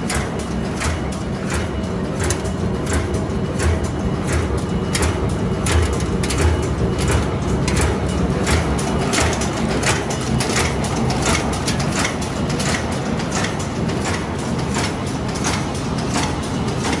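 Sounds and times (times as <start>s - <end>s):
rivet machine clacking: 0.0s - 17.0s
steady mechanical din: 0.0s - 17.0s.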